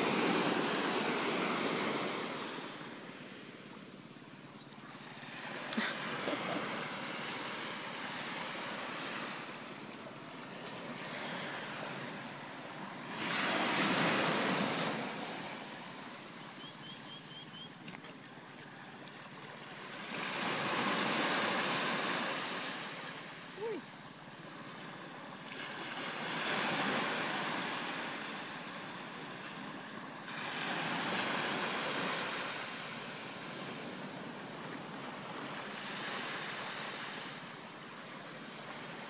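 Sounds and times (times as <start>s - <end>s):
sea waves washing on a beach: 0.0s - 39.0s
wind: 0.0s - 39.0s.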